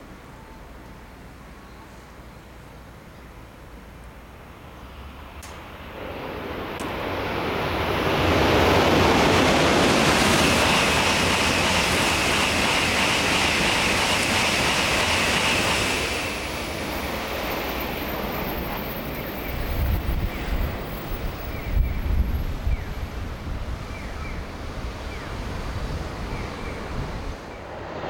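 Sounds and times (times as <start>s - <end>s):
high-speed train passing: 0.0s - 28.0s.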